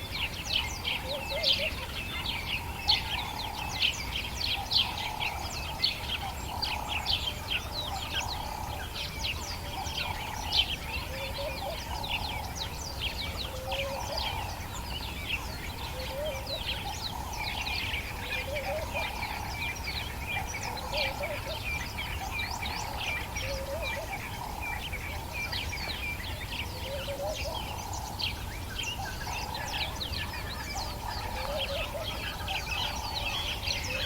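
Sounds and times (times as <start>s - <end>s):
birds chirping and trilling: 0.0s - 34.0s.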